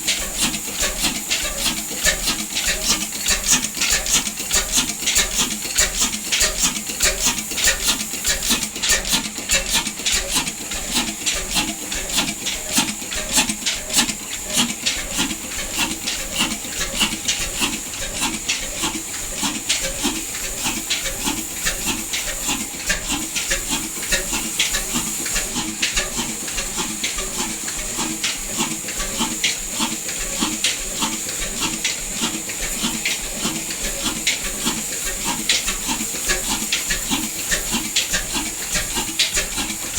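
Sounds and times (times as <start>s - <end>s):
mechanical ticking clatter: 0.0s - 39.9s.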